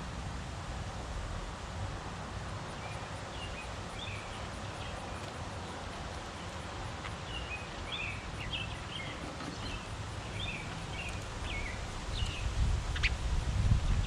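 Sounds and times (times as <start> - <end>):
small birds chirping: 2.6 - 14.0.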